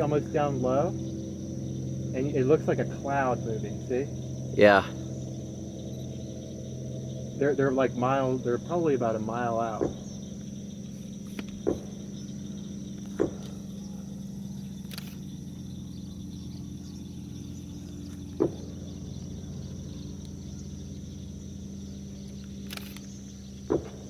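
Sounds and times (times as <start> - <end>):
high insect drone: 0.0 - 24.0
low steady hum: 0.0 - 24.0.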